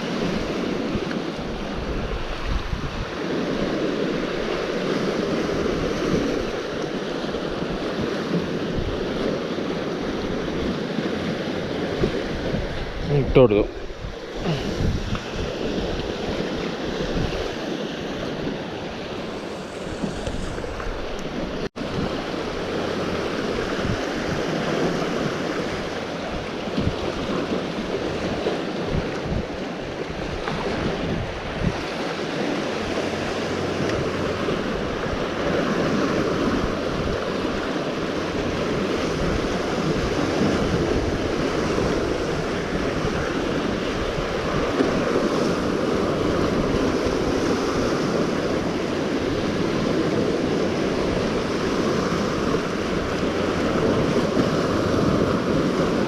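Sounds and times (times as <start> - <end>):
sea waves on rocky shore: 0.0 - 56.0
wind buffeting microphone: 0.0 - 56.0.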